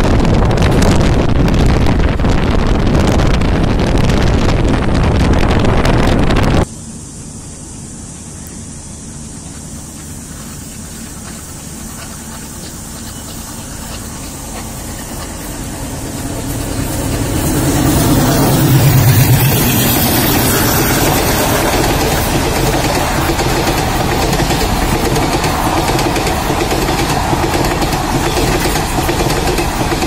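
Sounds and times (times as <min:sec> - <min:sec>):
diesel locomotive engine passing: 0:00.0 - 0:30.0.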